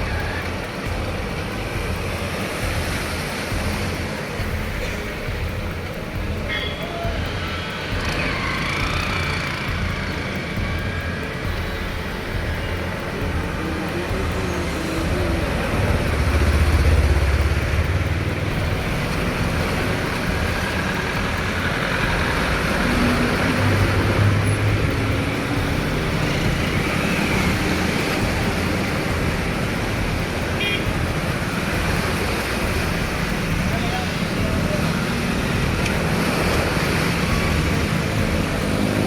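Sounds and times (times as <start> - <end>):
steady rushing water noise: 0.0 - 39.0
vehicle engines rumbling past: 0.0 - 39.0.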